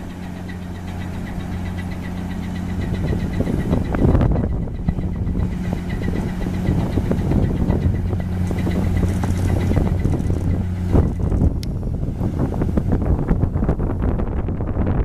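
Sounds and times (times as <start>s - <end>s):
engine droning: 0.0s - 15.0s
rough gusty noise: 0.0s - 15.0s.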